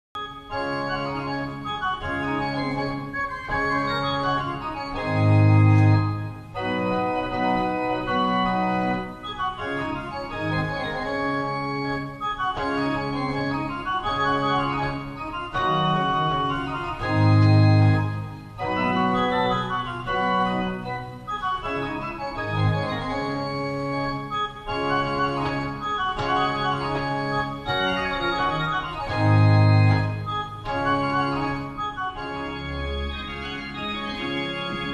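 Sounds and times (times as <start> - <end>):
pipe organ chords: 0.2 - 34.9.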